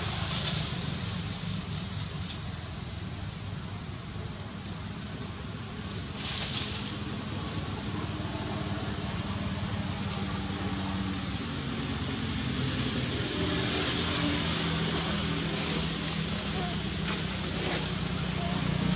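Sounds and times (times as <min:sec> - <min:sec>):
high whine: 0:00.0 - 0:18.9
steady low motor hum: 0:00.0 - 0:18.9.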